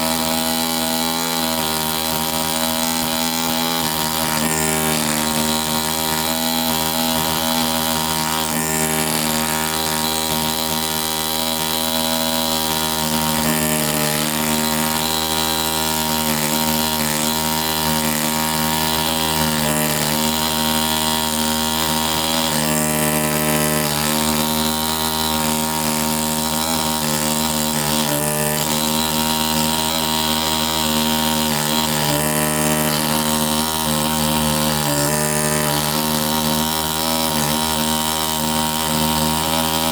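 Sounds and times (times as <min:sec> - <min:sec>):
pneumatic air scribe buzzing: 0:00.0 - 0:39.9.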